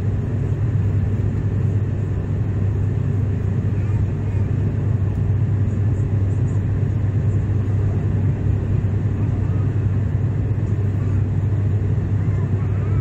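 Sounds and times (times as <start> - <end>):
airliner cabin engine drone: 0.0 - 13.0.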